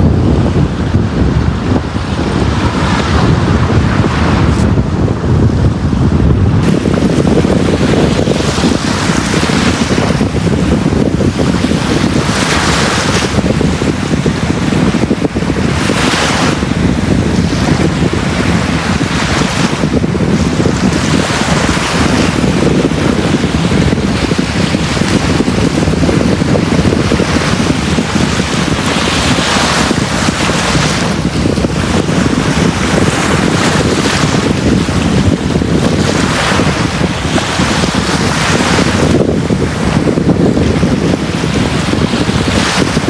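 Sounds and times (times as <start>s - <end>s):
sea waves breaking on beach: 0.0s - 43.0s.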